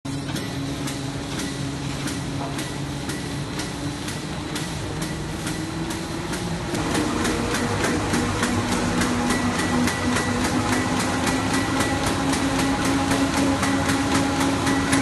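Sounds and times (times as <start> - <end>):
bag machine humming: 0.1 - 15.0.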